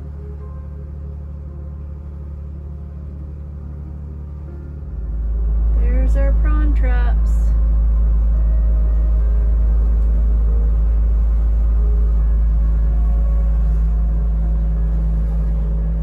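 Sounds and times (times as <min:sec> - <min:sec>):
boat diesel engine rumbling: 0:00.0 - 0:16.0.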